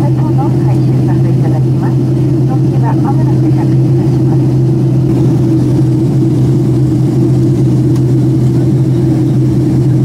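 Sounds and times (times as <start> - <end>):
jet engine drone in cabin: 0.0 - 10.0.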